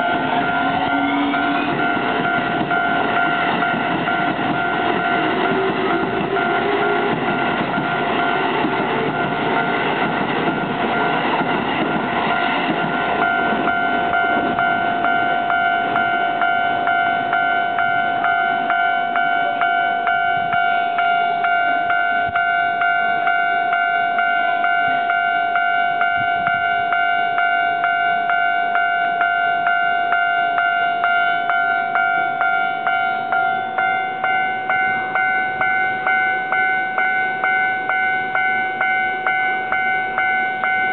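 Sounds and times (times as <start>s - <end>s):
level crossing bell ringing: 0.0s - 8.4s, 13.2s - 40.9s
electric train rumbling: 0.0s - 40.9s.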